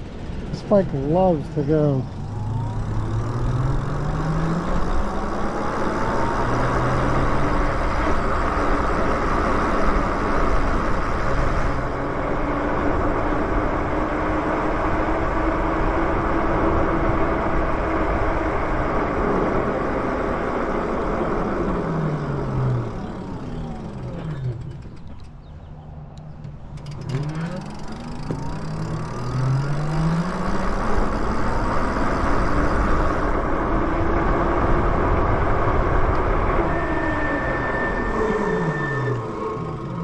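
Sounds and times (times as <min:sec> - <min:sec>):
wind and tyre noise: 0:00.0 - 0:40.0
electric motor whine: 0:02.0 - 0:25.1, 0:26.7 - 0:40.0.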